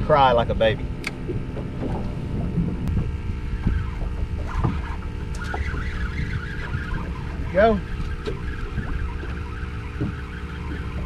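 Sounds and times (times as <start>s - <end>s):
steady low hum: 0.0s - 11.0s
wind buffeting microphone: 0.0s - 11.0s.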